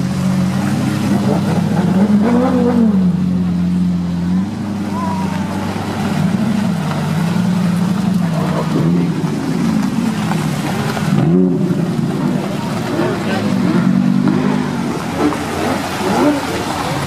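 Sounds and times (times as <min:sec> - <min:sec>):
sports car engines revving: 0:00.0 - 0:17.0.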